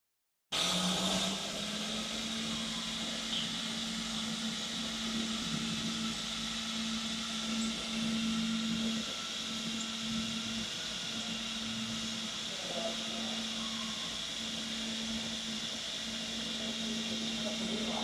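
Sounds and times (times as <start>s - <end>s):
cnc router running: 0.6s - 18.0s.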